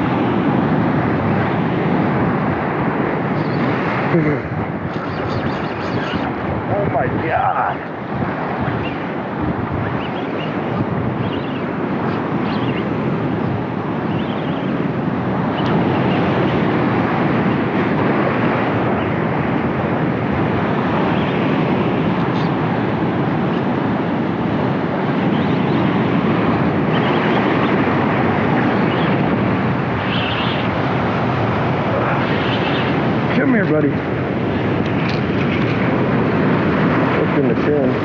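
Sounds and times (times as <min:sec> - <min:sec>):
ocean surf: 0:00.0 - 0:38.0
wind buffeting the microphone: 0:00.0 - 0:38.0.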